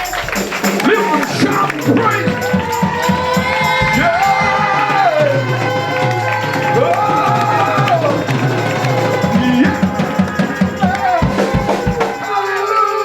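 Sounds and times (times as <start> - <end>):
drum kit beat: 0.0 - 13.0
gospel band playing: 0.0 - 13.0.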